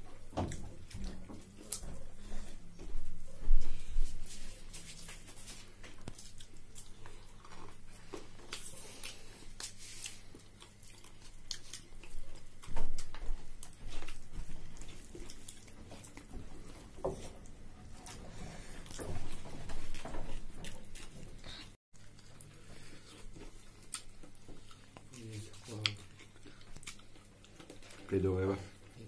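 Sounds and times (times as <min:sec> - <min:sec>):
people chewing: 0:00.0 - 0:29.0.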